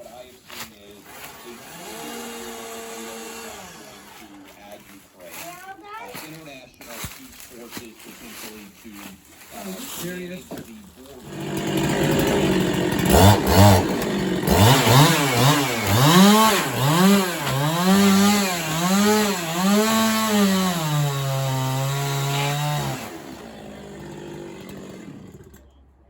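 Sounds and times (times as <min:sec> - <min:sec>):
chainsaw revving: 0:00.1 - 0:06.4, 0:11.0 - 0:25.7.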